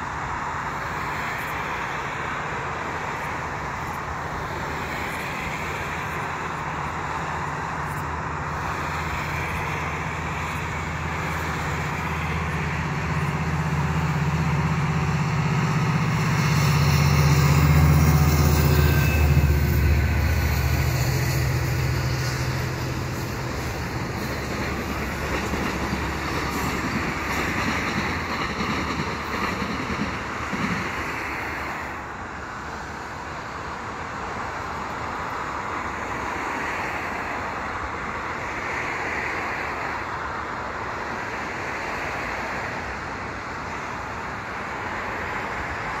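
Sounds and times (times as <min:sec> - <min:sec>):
train wheels rumbling over rails: 0:00.0 - 0:46.0.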